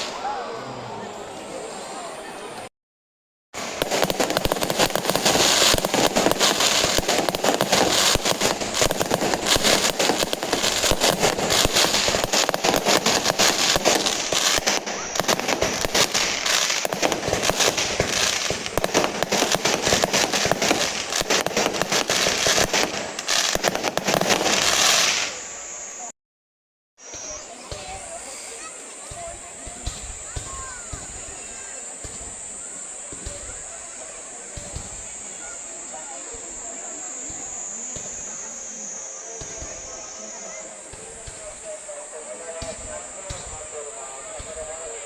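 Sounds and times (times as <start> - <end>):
fireworks crackling and popping: 0.0 - 0.4, 3.6 - 26.2, 27.0 - 45.0.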